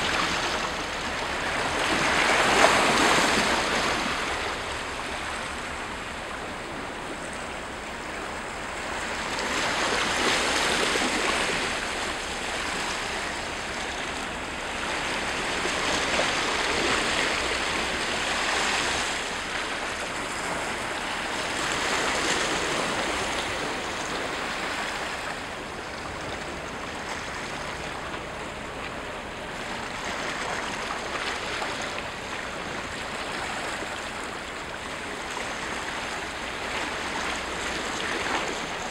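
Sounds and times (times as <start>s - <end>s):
waves washing against rocks: 0.0s - 38.9s.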